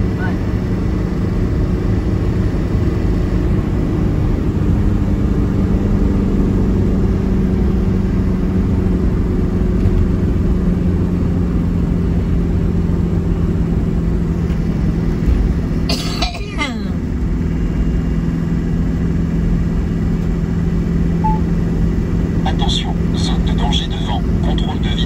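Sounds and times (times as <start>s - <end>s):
car interior road rumble: 0.0s - 25.0s.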